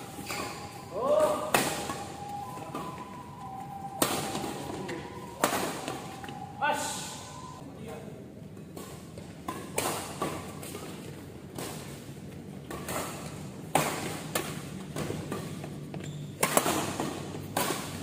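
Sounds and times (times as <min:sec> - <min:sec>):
racket hitting shuttlecock: 0:00.0 - 0:06.4, 0:08.7 - 0:18.0.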